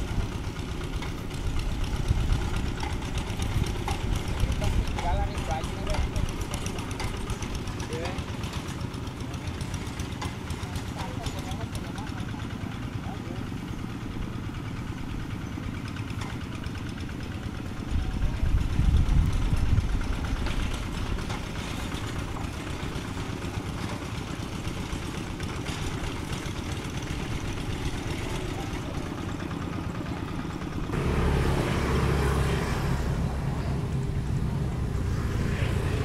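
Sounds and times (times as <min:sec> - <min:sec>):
diesel tractor engine running: 0:00.0 - 0:36.0.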